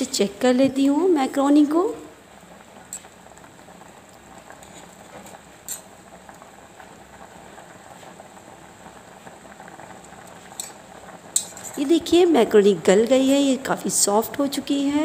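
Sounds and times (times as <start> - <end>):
water boiling and bubbling: 0.0 - 15.0.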